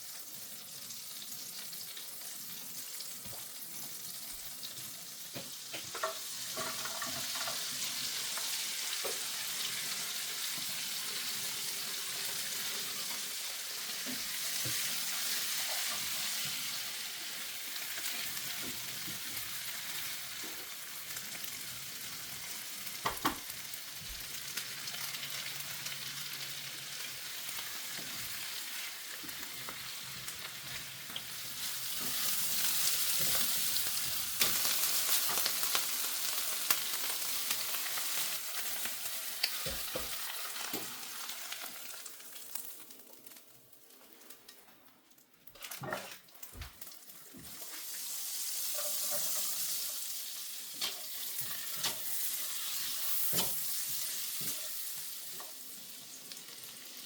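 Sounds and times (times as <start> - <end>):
food sizzling in a frying pan: 0.0 - 44.5, 45.4 - 57.0.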